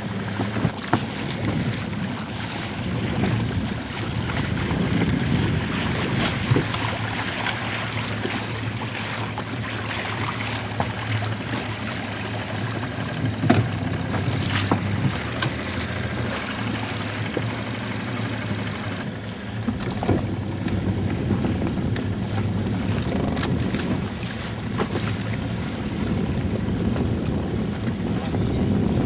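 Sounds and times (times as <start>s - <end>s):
water washing along hull: 0.0s - 29.0s
wind buffeting microphone: 0.0s - 29.0s.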